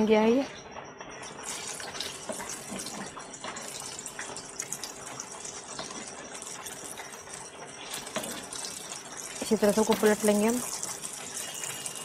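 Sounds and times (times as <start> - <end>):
hot oil sizzling and crackling: 1.2 - 12.0.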